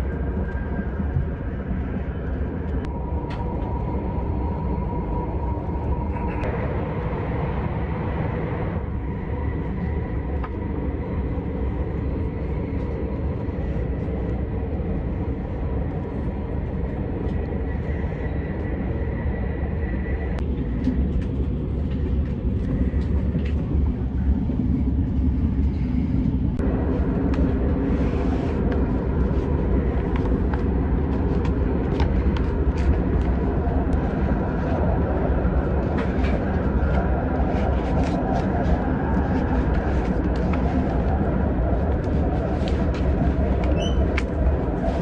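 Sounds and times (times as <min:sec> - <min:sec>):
train cabin rumble: 0:00.0 - 0:45.0.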